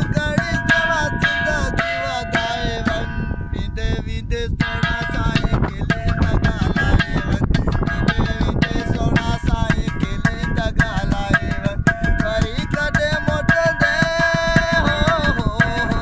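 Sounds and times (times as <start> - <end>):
fast hand drum percussion: 0.0 - 3.1, 4.6 - 16.0
man singing folk song: 0.0 - 16.0.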